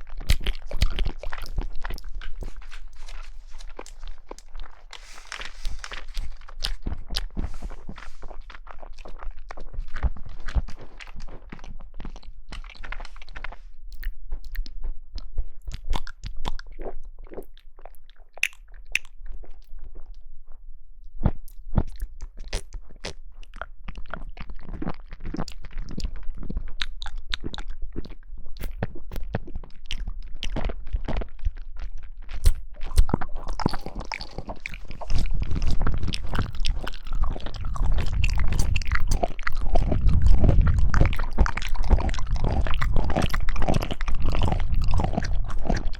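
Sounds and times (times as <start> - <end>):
crunching and chewing: 0.0 - 45.9.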